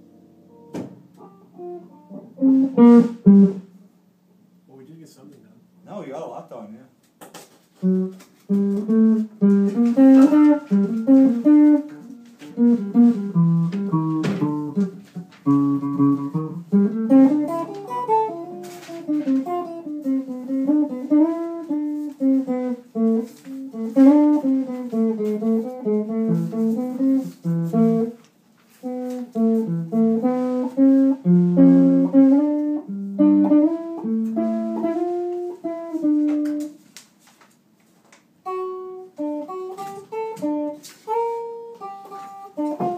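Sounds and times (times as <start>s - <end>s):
guitar picking notes and chords: 0.0s - 3.8s, 7.8s - 28.2s, 28.8s - 36.8s, 38.4s - 42.9s.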